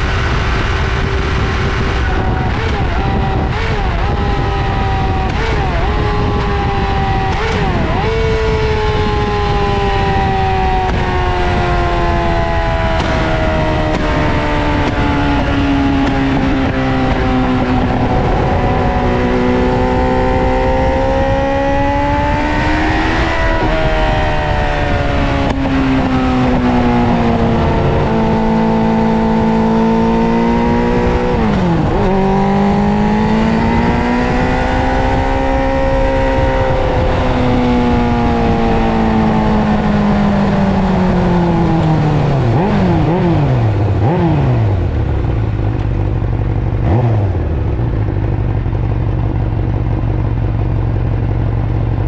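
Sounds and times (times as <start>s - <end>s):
motorcycle engine revving through gears: 0.0s - 52.0s
motorcycle throttle blips: 0.0s - 52.0s.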